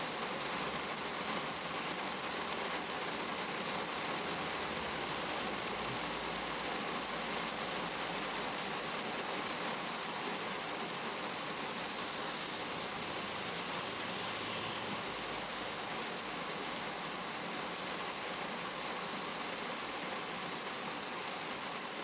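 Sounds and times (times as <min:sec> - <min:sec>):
rain on car windshield and roof: 0:00.0 - 0:22.0.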